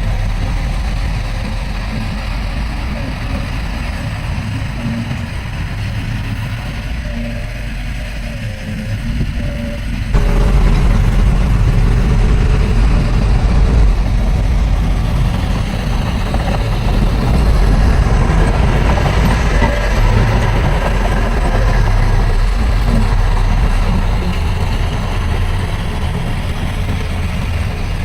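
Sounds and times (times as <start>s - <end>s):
heavy diesel engine rumbling: 0.0s - 28.0s.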